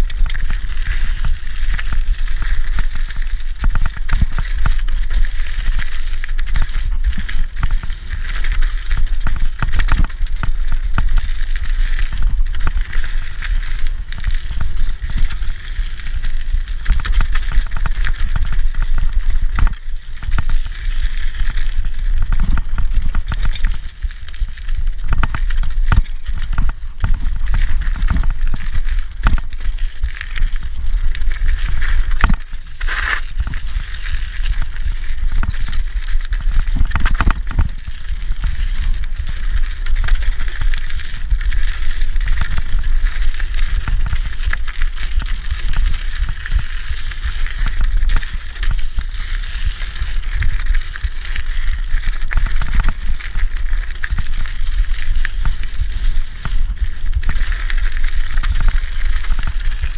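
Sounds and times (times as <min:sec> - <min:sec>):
bike knocks and rattles: 0:00.0 - 0:20.7, 0:21.3 - 0:49.0, 0:49.6 - 0:59.9
bike tyres on dirt trail: 0:00.0 - 0:59.9
low wind rumble on microphone: 0:00.0 - 0:59.9.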